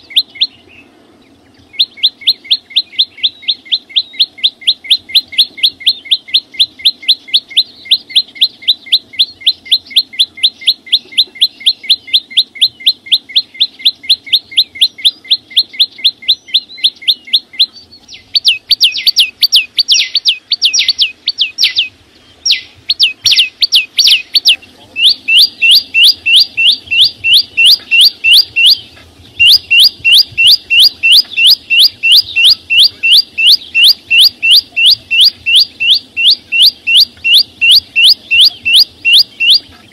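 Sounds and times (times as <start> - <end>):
songbird chipping calls: 0.0 - 39.9.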